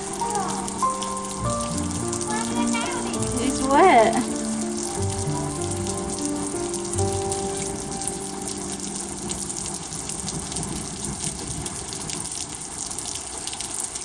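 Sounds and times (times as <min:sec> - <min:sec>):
steady rain pouring: 0:00.0 - 0:14.0.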